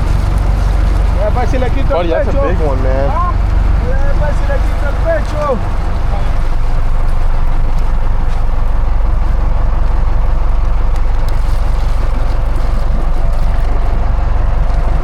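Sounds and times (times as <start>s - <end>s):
boat engine low rumble: 0.0s - 15.0s
water noise: 0.0s - 15.0s
wind: 0.0s - 15.0s.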